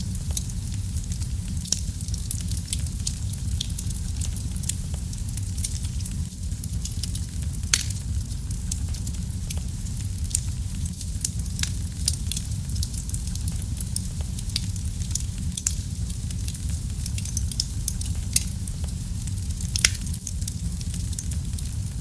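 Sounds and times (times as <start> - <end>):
low rumble of burning fire: 0.0 - 22.0
wood fire popping and snapping: 0.0 - 22.0.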